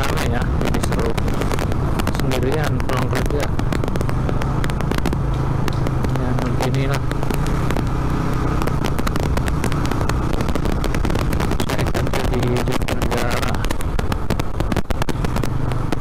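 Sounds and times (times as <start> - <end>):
crackles: 0.0 - 16.0
motorcycle engine running: 0.0 - 16.0
road and wind noise: 0.0 - 16.0.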